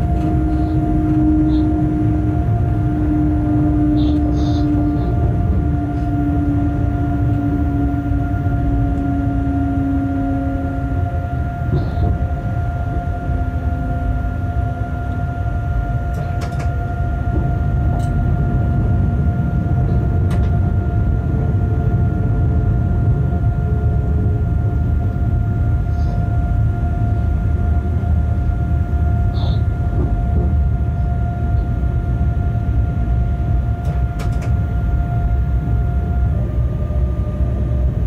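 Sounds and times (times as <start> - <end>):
electric whine and hums: 0.0 - 38.0
locomotive rumble: 0.0 - 38.0.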